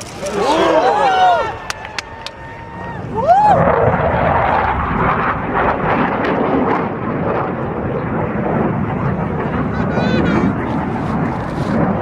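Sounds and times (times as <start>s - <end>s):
fighter jet engines rushing: 0.0s - 12.0s.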